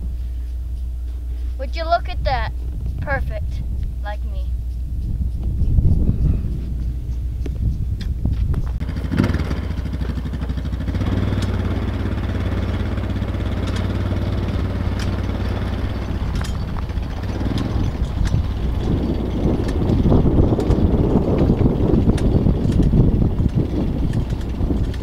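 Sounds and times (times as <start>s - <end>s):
small tractor engine running: 4.6s - 25.0s.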